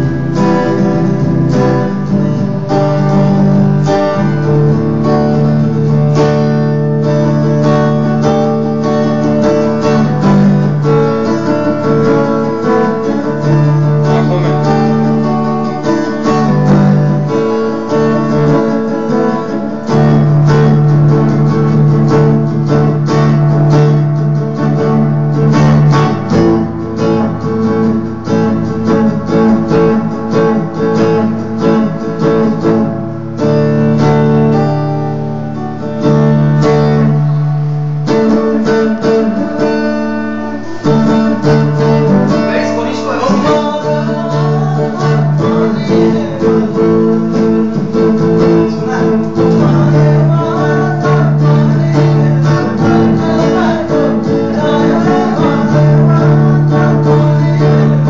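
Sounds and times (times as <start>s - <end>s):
electric guitar strumming chords: 0.0s - 58.0s.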